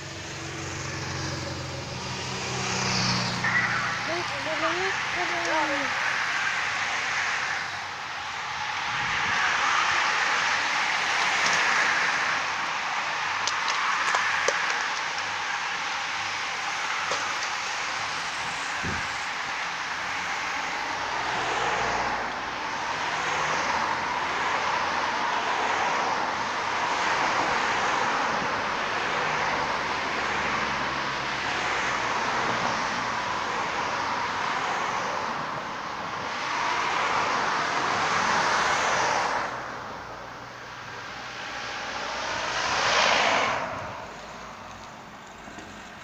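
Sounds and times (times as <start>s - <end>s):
road traffic passing: 0.0s - 46.0s.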